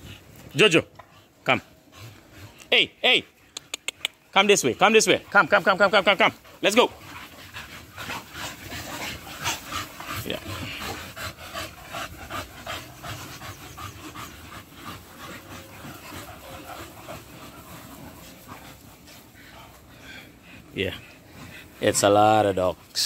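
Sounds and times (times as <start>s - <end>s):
dogs panting hard: 0.0s - 23.0s.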